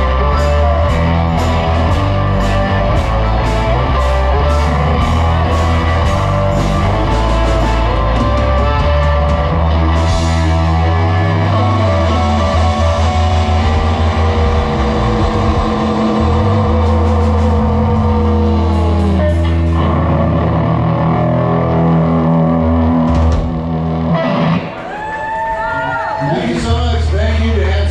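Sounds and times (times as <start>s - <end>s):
drums: 0.0s - 27.9s
electric guitar: 0.0s - 27.9s
live blues rock band: 0.0s - 27.9s.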